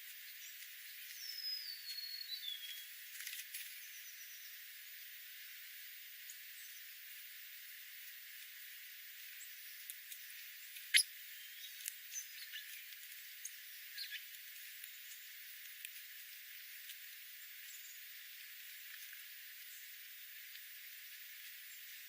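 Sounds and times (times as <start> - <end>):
small birds chirping: 0.0 - 4.7, 7.7 - 22.0
steady hiss: 0.0 - 22.0.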